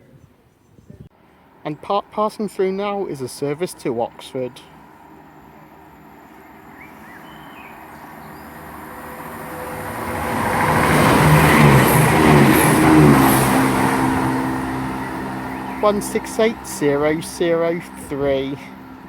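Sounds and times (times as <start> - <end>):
diesel train passing at speed: 1.1 - 19.0.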